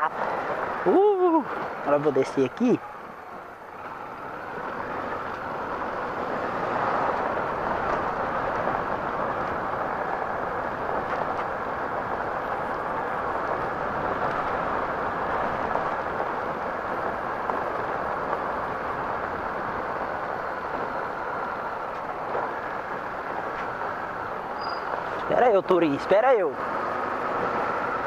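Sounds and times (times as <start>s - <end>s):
wind rushing on microphone: 0.0s - 28.0s.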